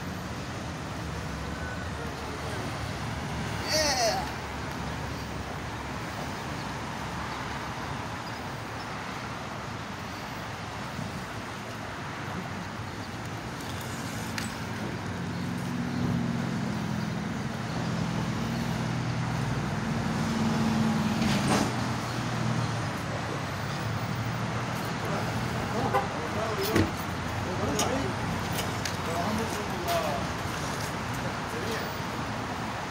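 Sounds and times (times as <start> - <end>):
road traffic noise: 0.0 - 32.9
vehicle engine running nearby: 0.0 - 32.9.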